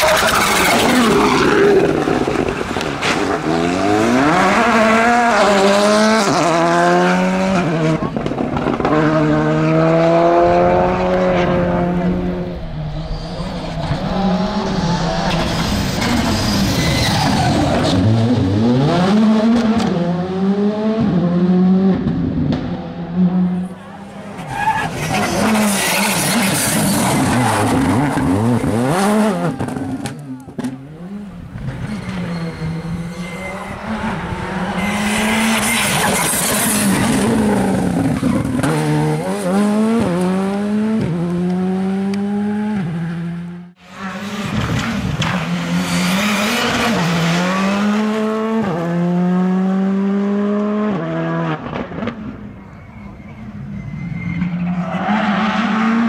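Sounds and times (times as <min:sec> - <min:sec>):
rally car engines revving past: 0:00.0 - 0:52.6.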